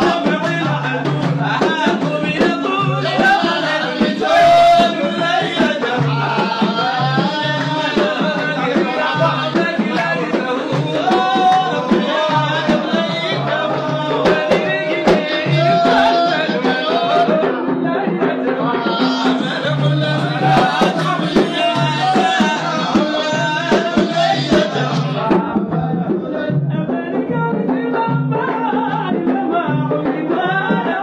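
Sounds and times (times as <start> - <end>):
drums beating steady rhythm: 0.0 - 31.0
man singing praise song: 0.0 - 31.0.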